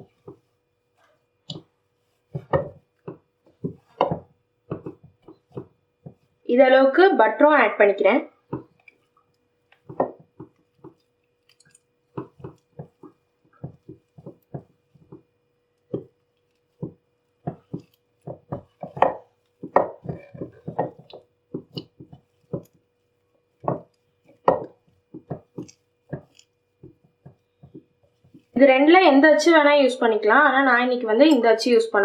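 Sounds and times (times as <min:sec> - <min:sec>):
hands kneading soft dough: 0:00.0 - 0:07.6, 0:08.2 - 0:29.7
dough squelches and thumps: 0:00.0 - 0:31.6
faint steady hum: 0:00.0 - 0:32.0.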